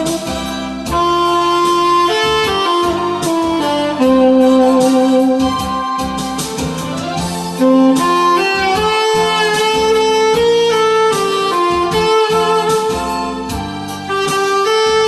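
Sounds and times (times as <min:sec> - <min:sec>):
guitar accompaniment: 0:00.0 - 0:15.0
melodic lead line: 0:00.0 - 0:15.0.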